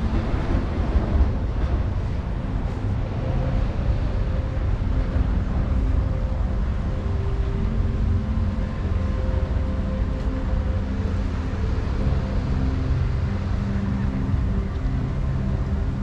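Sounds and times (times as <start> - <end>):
motor engines rumbling: 0.0 - 16.0.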